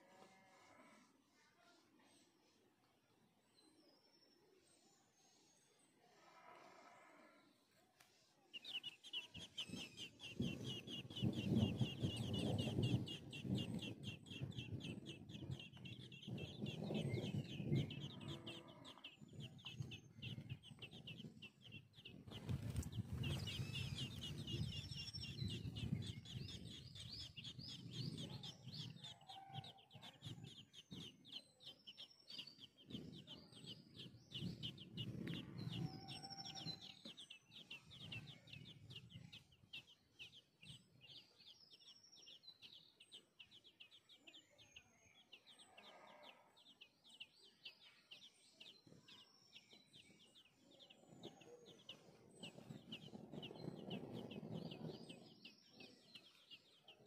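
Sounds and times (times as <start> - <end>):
birds chirping: 6.6 - 57.0.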